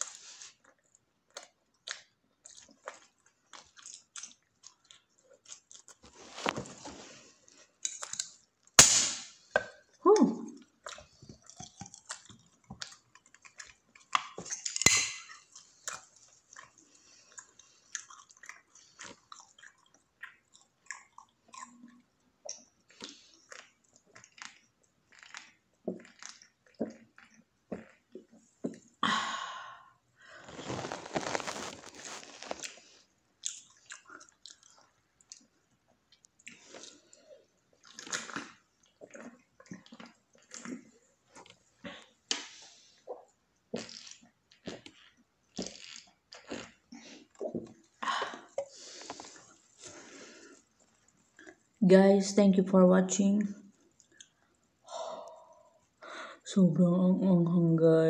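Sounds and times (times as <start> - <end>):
chewing and mouth smacking: 0.0 - 8.8, 9.6 - 29.0, 30.6 - 51.8, 53.6 - 54.8.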